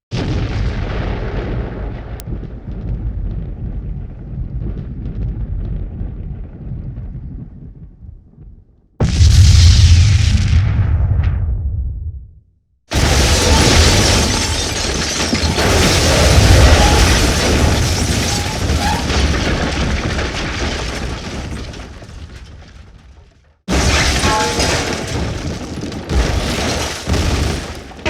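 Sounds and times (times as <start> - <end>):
explosion with deep rumble: 0.1 - 28.0
explosion with sharp crackles: 0.1 - 28.0.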